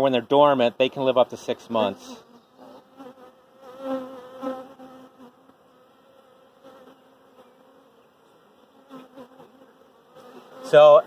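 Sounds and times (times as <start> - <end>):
bees humming: 1.7 - 11.0
bee flying close past: 2.1 - 11.0.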